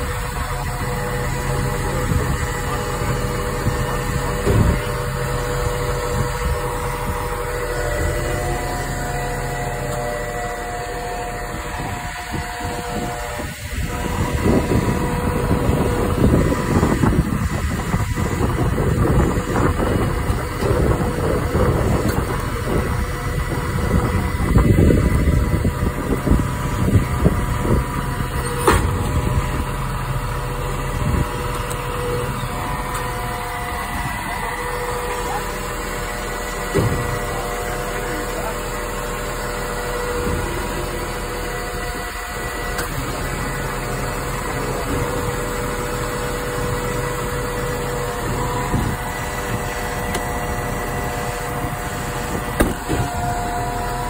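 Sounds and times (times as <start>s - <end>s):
garbage truck engine idling: 0.0s - 54.0s.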